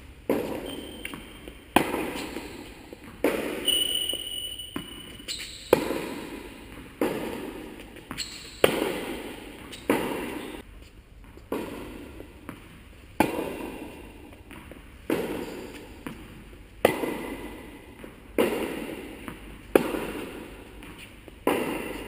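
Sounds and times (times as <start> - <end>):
tennis ball racket hits echoing: 0.0 - 10.6, 11.2 - 22.0.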